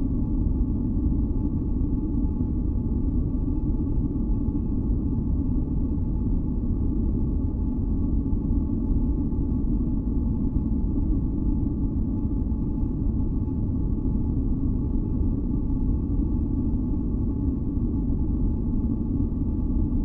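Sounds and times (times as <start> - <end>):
deep rumbling white noise: 0.0 - 20.0.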